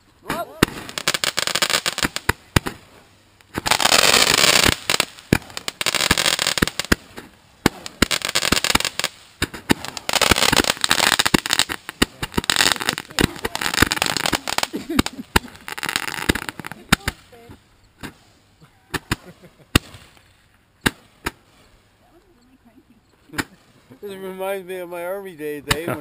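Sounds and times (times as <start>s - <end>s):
fireworks sharp bangs: 0.0s - 22.0s, 23.2s - 24.4s, 25.5s - 26.0s
fireworks crackling: 0.0s - 26.0s.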